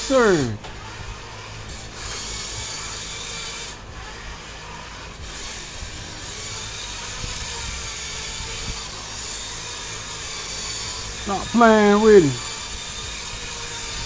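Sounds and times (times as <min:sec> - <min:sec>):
toy car electric whir: 0:00.0 - 0:14.0.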